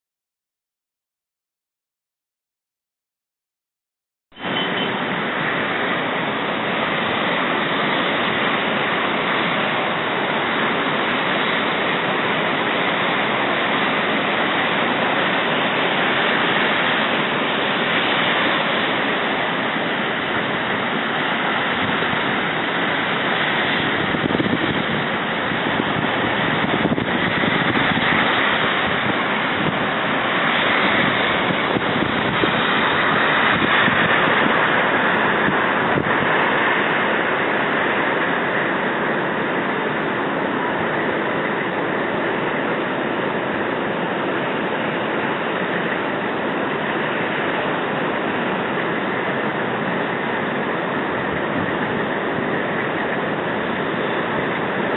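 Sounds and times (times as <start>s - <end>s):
wind buffeting microphone: 5.0s - 54.9s.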